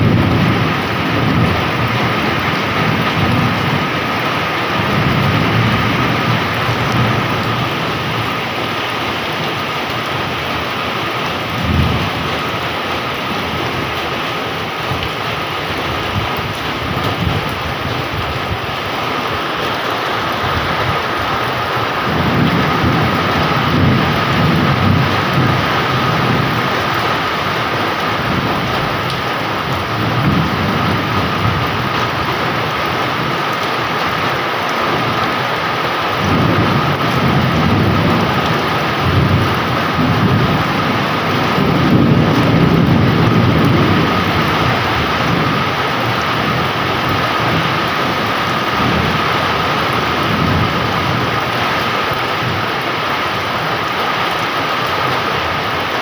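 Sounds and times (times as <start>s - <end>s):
low rolling thunder: 0.0s - 14.1s, 14.7s - 34.1s, 34.9s - 52.8s
heavy rain pouring: 0.0s - 56.0s.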